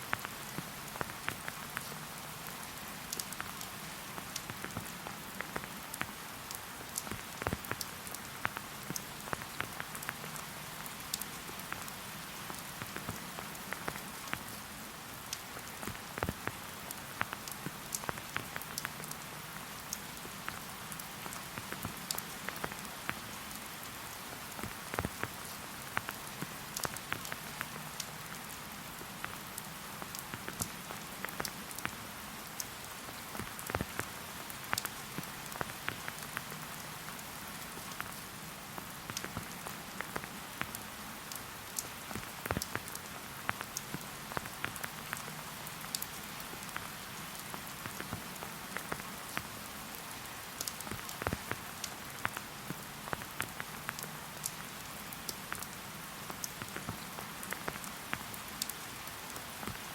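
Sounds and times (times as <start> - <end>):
rain drops tapping close by: 0.0 - 59.9
steady rain hiss: 0.0 - 59.9.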